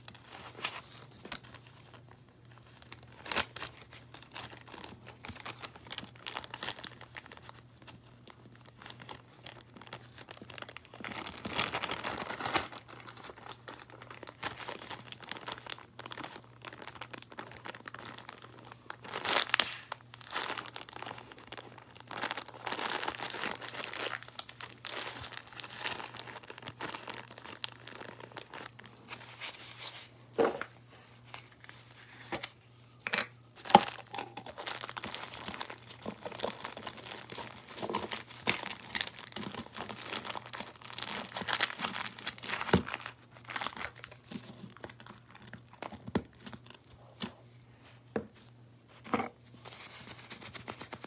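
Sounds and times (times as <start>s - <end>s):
crunchy slime crackling: 0.0s - 29.5s, 33.6s - 47.3s
plastic bag crinkling: 0.0s - 32.4s, 33.4s - 47.2s.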